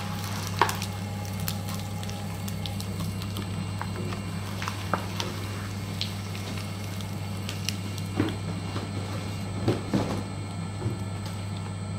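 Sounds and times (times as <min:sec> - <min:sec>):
paper shredder motor humming: 0:00.0 - 0:11.9.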